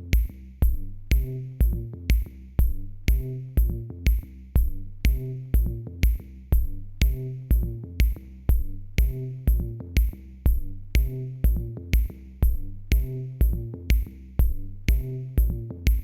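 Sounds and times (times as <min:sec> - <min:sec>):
electronic music with steady beat: 0:00.0 - 0:16.0
low bass notes: 0:00.0 - 0:16.0.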